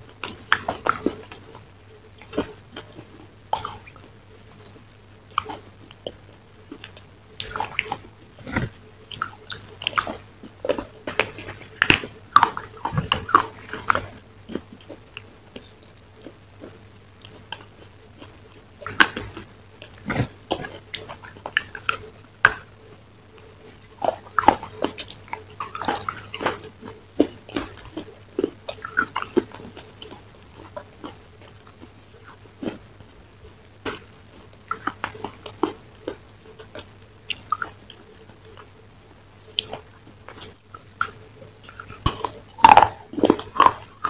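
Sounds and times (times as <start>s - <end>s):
chewing hard chocolate crunches: 0.0s - 33.2s, 33.8s - 38.8s, 39.5s - 44.0s
faint steady hum: 0.0s - 44.0s.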